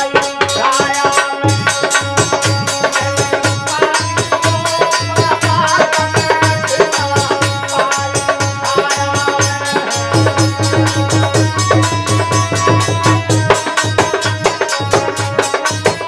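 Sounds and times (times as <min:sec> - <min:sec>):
dholak drum beat: 0:00.0 - 0:16.0
harmonium melody: 0:00.0 - 0:16.0.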